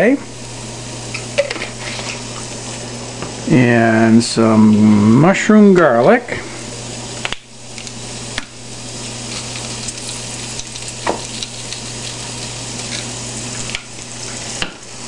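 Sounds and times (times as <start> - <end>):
vegetables sizzling in oil: 0.3 - 5.0, 6.6 - 15.0.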